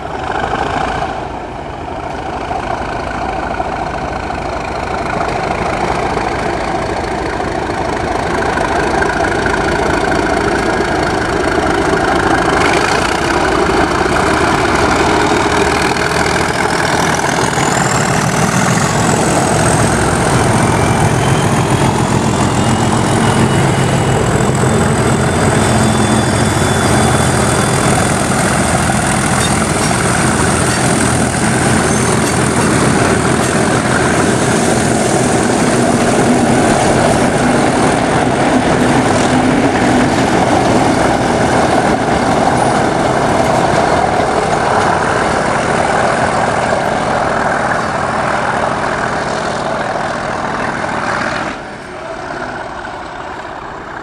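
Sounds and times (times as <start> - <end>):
diesel locomotives at full power: 0.0 - 54.0.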